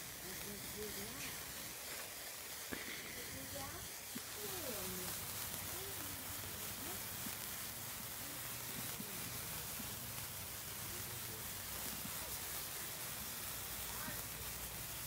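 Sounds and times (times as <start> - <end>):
sparkler fizzing and crackling: 0.0 - 15.0.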